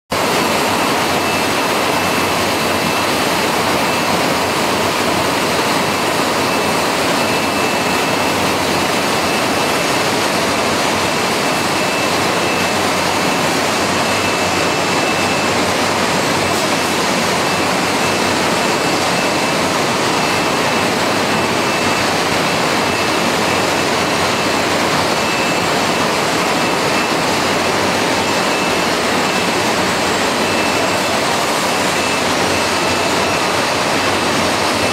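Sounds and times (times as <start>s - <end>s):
machinery rushing noise: 0.1s - 34.9s.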